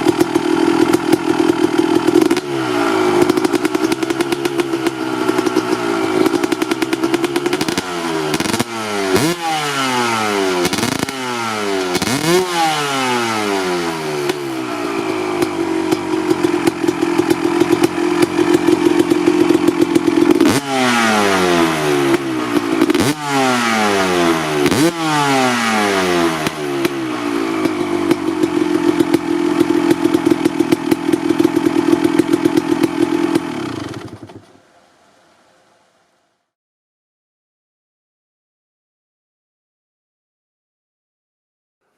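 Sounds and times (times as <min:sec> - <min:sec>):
two-stroke engine idling and revving: 0:00.0 - 0:34.6.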